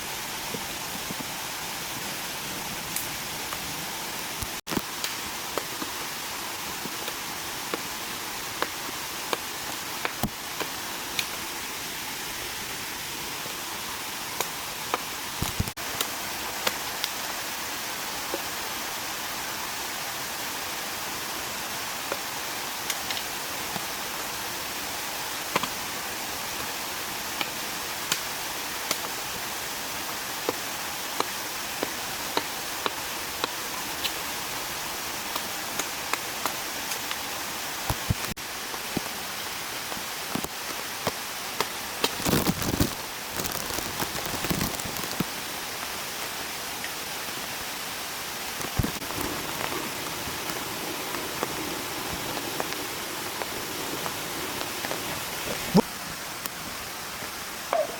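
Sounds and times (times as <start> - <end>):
rushing water hiss: 0.0 - 57.9.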